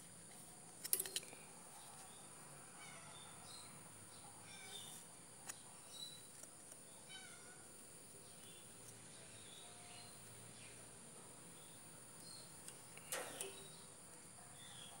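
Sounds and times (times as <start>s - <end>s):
faint chirps: 0.4s - 15.0s.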